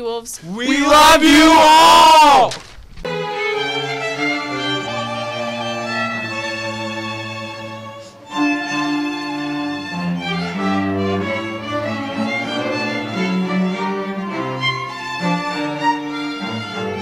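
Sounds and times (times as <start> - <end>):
string orchestra playing: 3.0 - 17.0.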